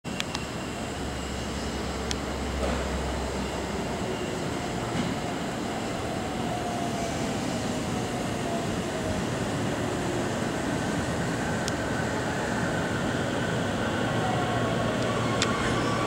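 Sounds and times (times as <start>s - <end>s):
electric train running noise: 0.2s - 16.0s.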